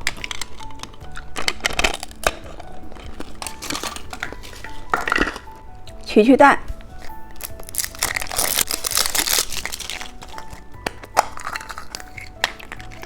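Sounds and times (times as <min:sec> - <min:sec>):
plastic packaging crinkling: 0:00.0 - 0:06.0, 0:06.8 - 0:13.0
soft background music: 0:00.0 - 0:13.0.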